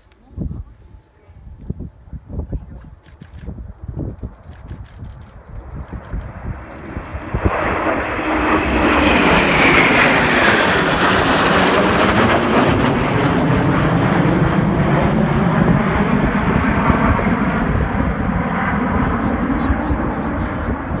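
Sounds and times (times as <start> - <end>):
jet roar: 1.4 - 21.0.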